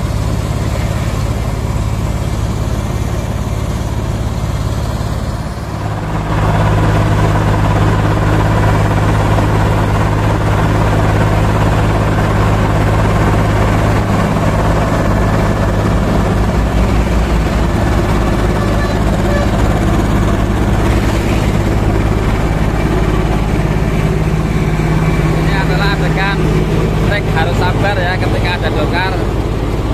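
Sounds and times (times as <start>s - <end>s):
asphalt milling machine running: 0.0s - 29.9s.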